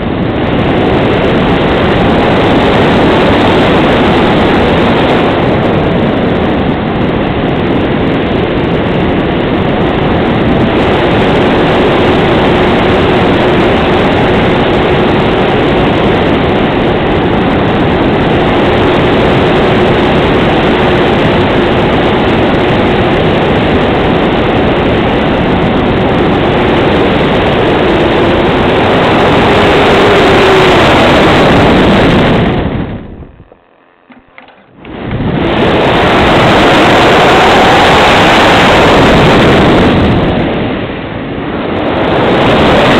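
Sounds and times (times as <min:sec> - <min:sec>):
airflow rushing over microphone: 0:00.0 - 0:42.9.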